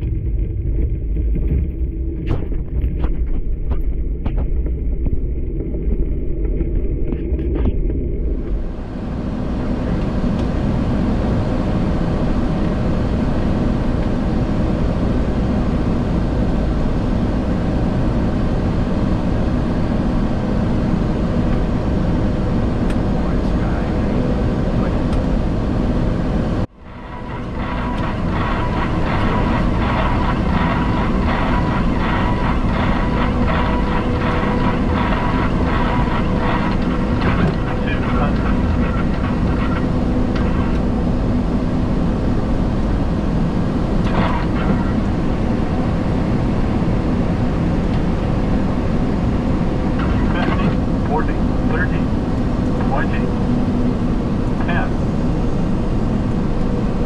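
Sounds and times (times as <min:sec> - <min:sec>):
airflow and engine hum: 0:00.0 - 0:57.0.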